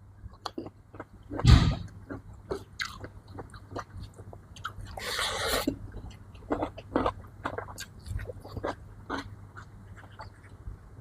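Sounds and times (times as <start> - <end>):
person chewing and biting food: 0.2 - 10.6.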